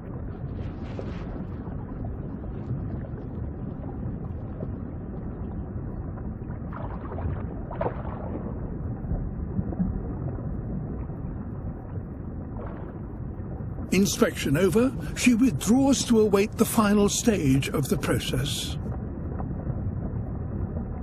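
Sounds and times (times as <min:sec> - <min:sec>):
low underwater rumbling wash: 0:00.0 - 0:21.0.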